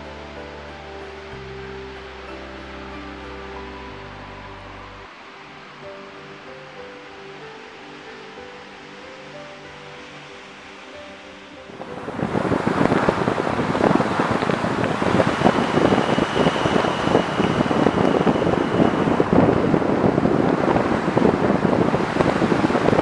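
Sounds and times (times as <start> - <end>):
faint high whine: 0.0 - 23.0
road and wind noise: 0.0 - 23.0.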